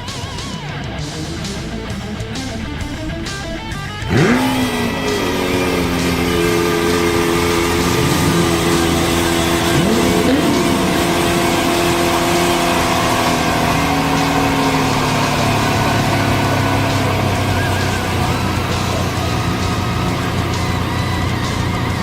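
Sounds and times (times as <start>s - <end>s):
sports car engine running: 0.0s - 22.0s.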